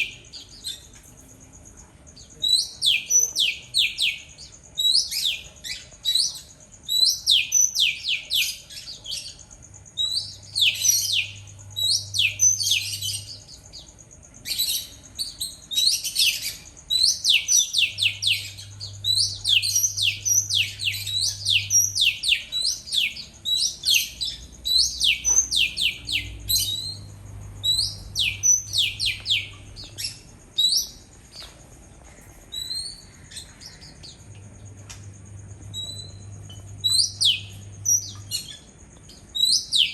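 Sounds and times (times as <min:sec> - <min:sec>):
bird singing whistled notes: 0:00.0 - 0:00.9, 0:02.2 - 0:31.0, 0:32.5 - 0:34.2, 0:35.7 - 0:39.9.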